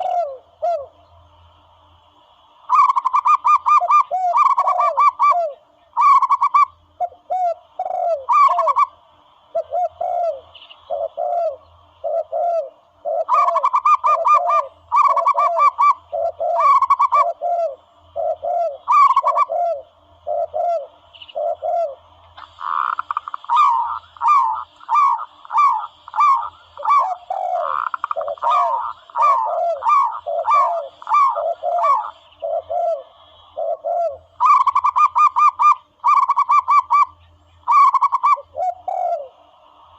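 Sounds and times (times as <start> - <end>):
higher cooing notes: 0.0 - 1.0, 2.7 - 39.5
recorded dove cooing: 0.0 - 1.0, 2.7 - 39.8.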